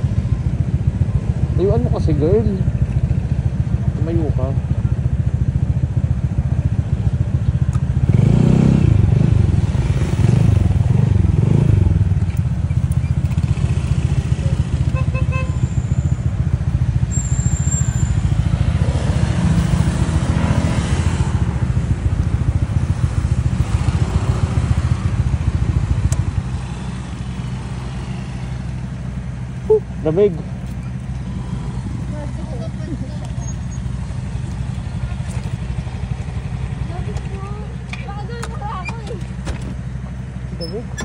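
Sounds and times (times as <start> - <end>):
motor scooter engine running: 0.0 - 41.0.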